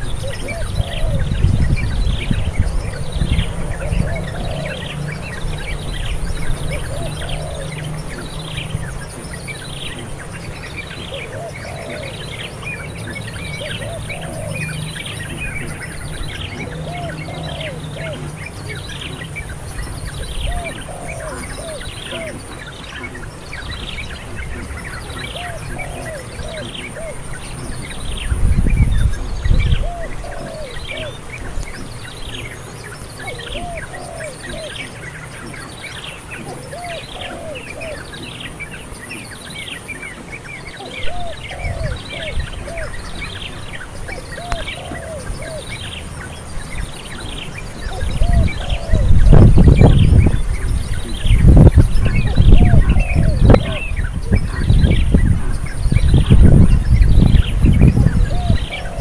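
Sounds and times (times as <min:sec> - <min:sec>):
birds chirping: 0:00.0 - 0:59.0
low repeating bird call: 0:00.0 - 0:59.0
low rumble of wind: 0:00.0 - 0:59.0.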